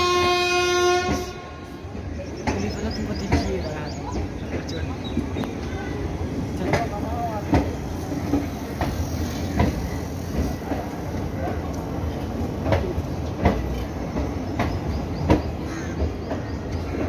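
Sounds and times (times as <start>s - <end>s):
train rumbling past: 0.0s - 17.0s
wheels clacking over rail joints: 1.9s - 17.0s.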